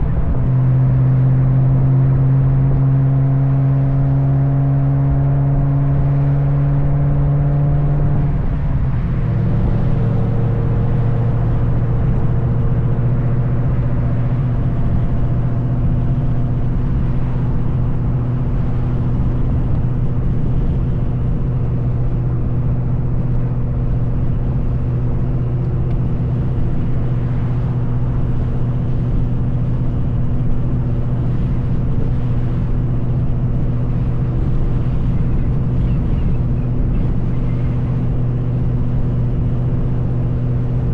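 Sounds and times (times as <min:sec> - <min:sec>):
car engine droning while driving: 0:00.0 - 0:40.9.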